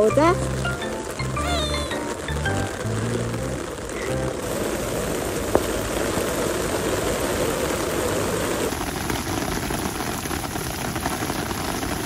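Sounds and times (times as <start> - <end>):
heavy rain on umbrella and pavement: 0.0 - 12.0.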